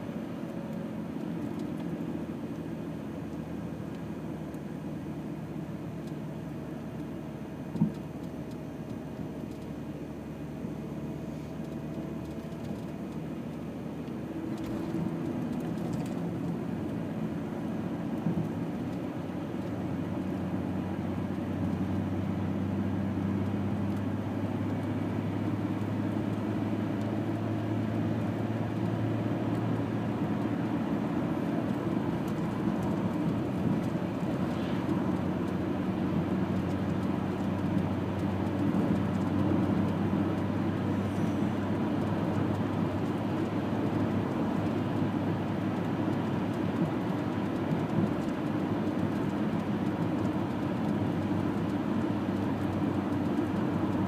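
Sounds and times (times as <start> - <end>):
car engine drone: 0.0 - 54.0
tyre road noise: 0.0 - 54.0.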